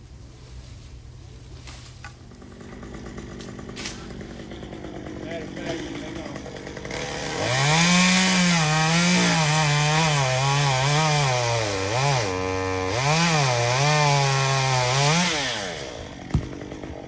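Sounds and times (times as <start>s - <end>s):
chainsaw cutting wood: 2.1s - 17.0s.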